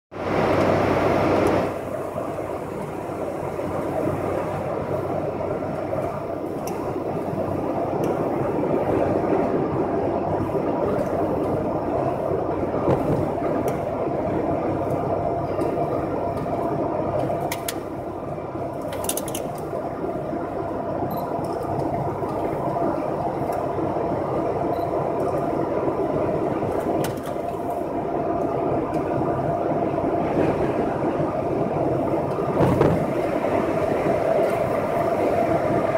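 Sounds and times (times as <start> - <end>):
tyres on wet road: 0.2 - 35.9.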